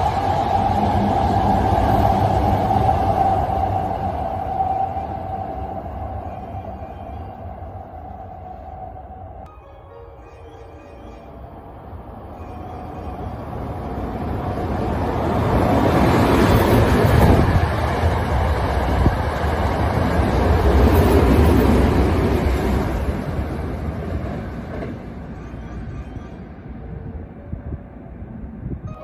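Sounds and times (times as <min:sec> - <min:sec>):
train passing at speed: 0:00.0 - 0:29.0.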